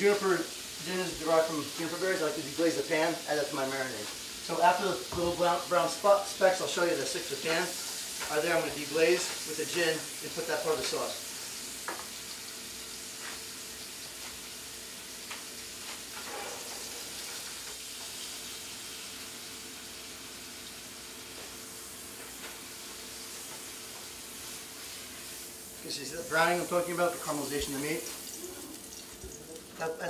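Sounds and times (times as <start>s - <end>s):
meat sizzling in skillet: 0.0s - 30.0s.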